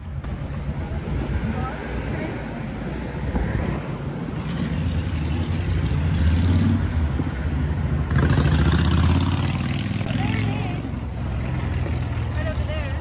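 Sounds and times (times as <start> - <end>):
road noise rush: 0.0 - 13.0
vehicle engine hum: 0.0 - 13.0.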